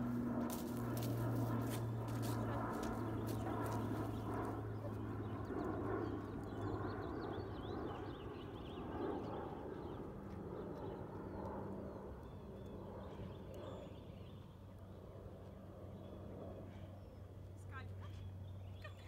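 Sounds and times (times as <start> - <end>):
low hum and rush: 0.0 - 19.0
small birds chirping: 0.6 - 19.0.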